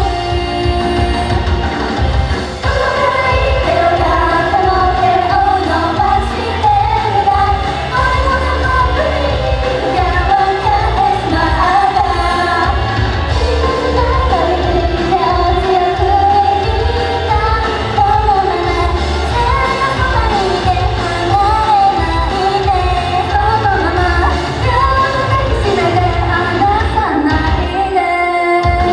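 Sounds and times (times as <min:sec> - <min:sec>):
pounding bass: 0:00.0 - 0:27.7
loud pop backing music: 0:00.0 - 0:28.9
high vocal melody: 0:02.6 - 0:28.9.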